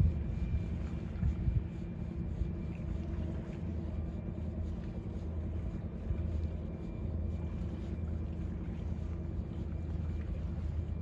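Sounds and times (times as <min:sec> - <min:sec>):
ship engine drone: 0:00.0 - 0:11.0
wind on microphone: 0:00.0 - 0:11.0.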